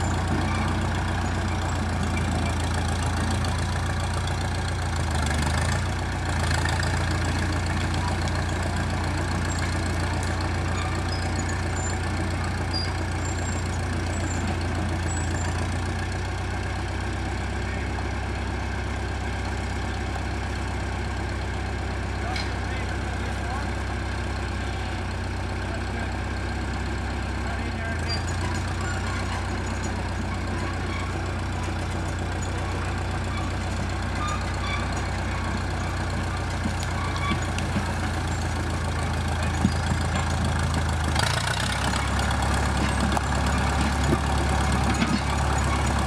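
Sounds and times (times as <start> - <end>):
dozer engine running low revs: 0.0 - 46.0.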